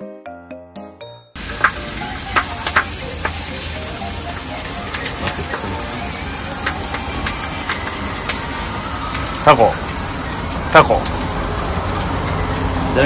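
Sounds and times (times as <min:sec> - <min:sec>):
chiming musical jingle: 0:00.0 - 0:11.1
food frying sizzle: 0:01.4 - 0:13.0.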